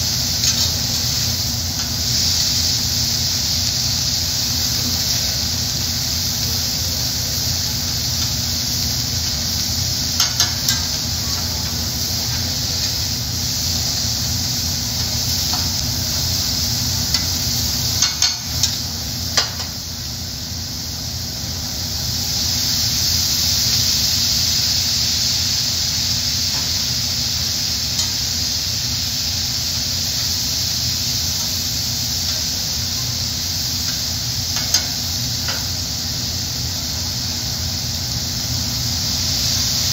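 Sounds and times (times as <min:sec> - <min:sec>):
food sizzling on a griddle: 0:00.0 - 0:39.9.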